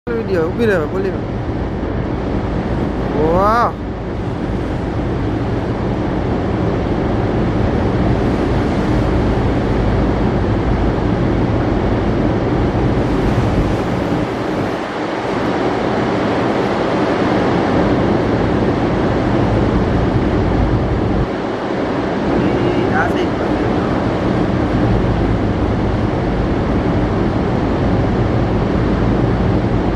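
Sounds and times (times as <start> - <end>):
ship machinery hum: 0.0 - 29.9
wind buffeting microphone: 0.1 - 29.9.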